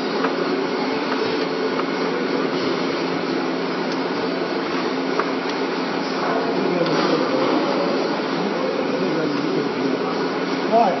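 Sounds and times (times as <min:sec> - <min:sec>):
fan noise: 0:00.0 - 0:11.0
refrigeration unit hum: 0:00.0 - 0:11.0.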